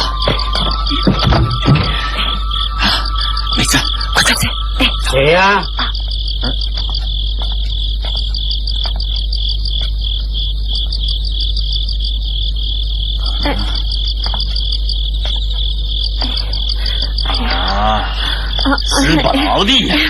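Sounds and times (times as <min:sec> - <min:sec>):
crickets chirping: 0:00.0 - 0:20.0
low electrical hum: 0:00.0 - 0:20.0.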